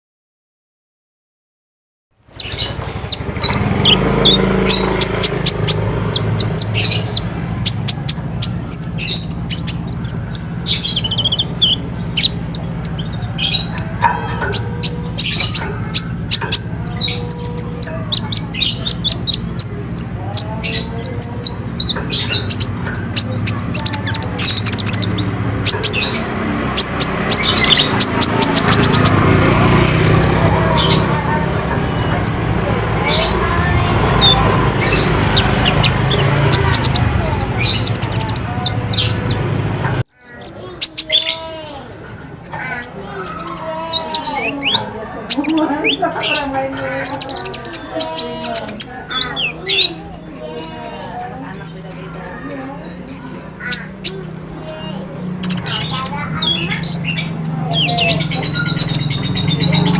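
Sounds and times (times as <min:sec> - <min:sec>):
sunbird singing high chirps: 0:02.3 - 0:59.9.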